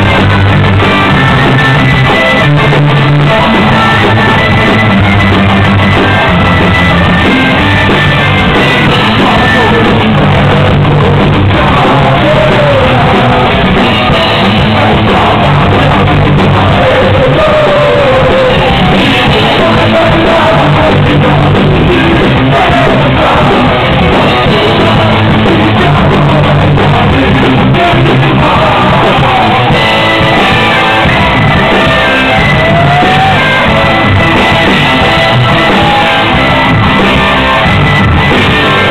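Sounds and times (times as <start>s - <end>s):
folk metal band playing: 0.0s - 38.9s
people singing and shouting: 0.0s - 38.9s.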